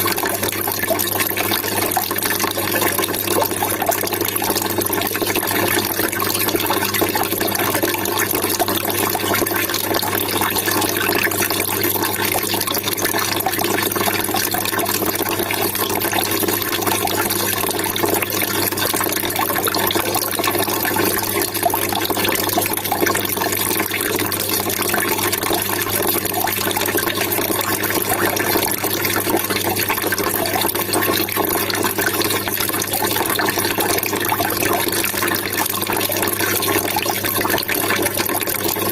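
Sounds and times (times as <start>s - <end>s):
water trickling and gurgling: 0.0s - 38.9s.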